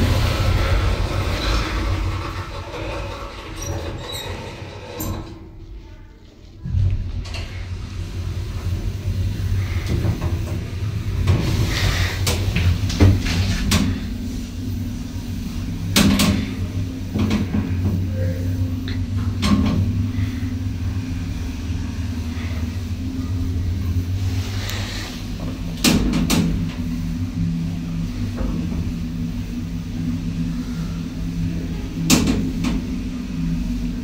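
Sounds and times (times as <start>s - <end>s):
elevator hum: 0.0s - 34.0s.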